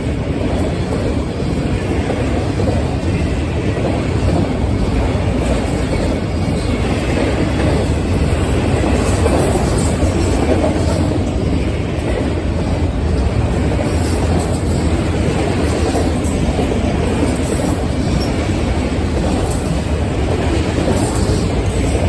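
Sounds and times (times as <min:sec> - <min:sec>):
train rumbling past on rails: 0:00.0 - 0:22.0.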